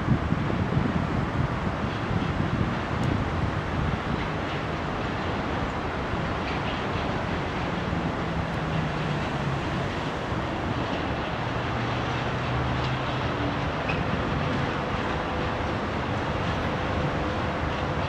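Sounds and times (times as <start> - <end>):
low locomotive hum: 0.0 - 18.0
train wheels on rails: 0.0 - 18.0.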